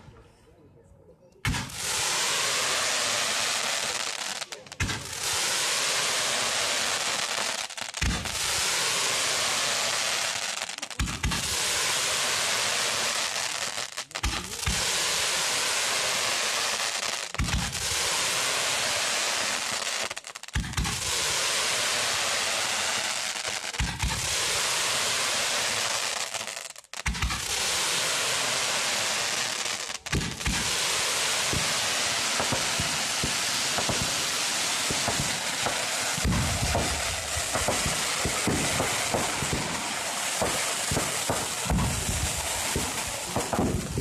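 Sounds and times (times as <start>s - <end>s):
fireworks crackling: 1.4s - 44.0s
fireworks hissing: 1.5s - 44.0s.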